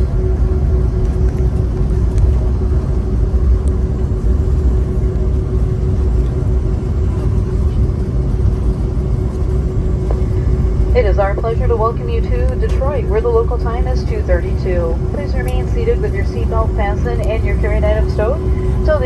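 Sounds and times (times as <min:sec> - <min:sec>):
airplane cabin rumble: 0:00.0 - 0:19.0
constant droning tone: 0:00.0 - 0:19.0.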